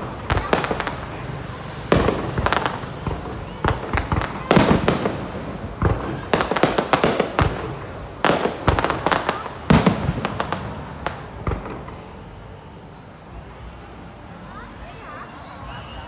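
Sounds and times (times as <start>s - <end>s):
fireworks bangs and crackles: 0.0s - 14.3s.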